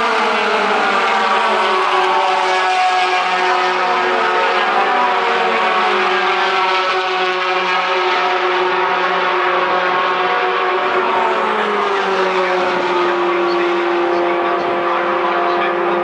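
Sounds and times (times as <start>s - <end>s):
racing truck engines droning: 0.0s - 16.0s.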